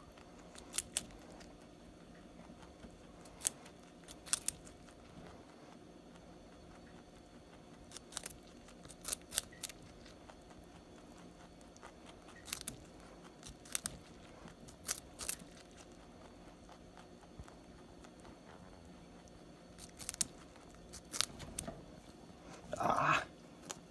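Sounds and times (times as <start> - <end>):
quiet chewing: 0.0 - 23.9
rabbit crunching carrots: 0.0 - 23.9.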